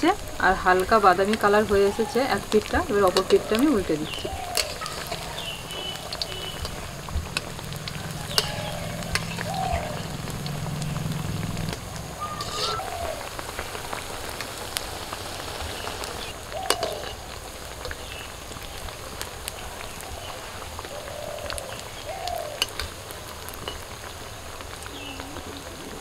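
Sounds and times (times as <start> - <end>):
deep-frying sizzle with crackling: 0.0 - 26.0.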